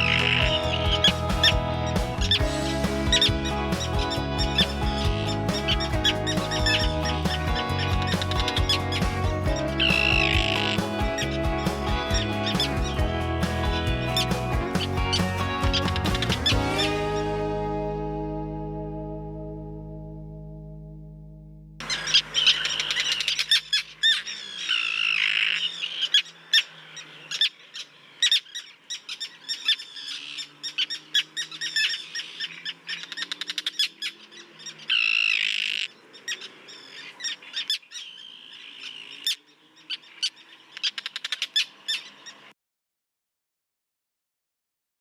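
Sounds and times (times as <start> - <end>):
terns calling: 0.0 - 17.0, 21.8 - 42.5.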